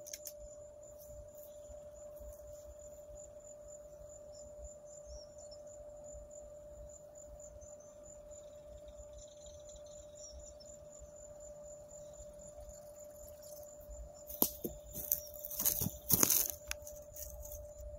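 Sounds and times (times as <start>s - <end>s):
insects chirping: 0.0s - 17.9s
steady hum-like tone: 0.0s - 17.9s.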